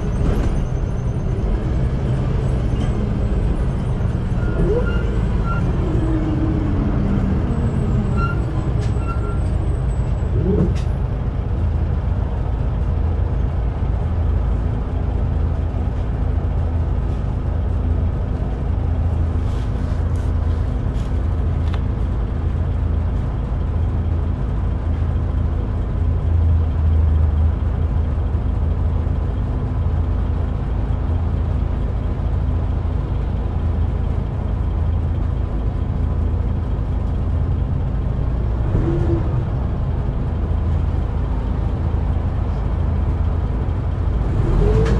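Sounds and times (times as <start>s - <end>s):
bus engine idling: 0.0s - 44.9s.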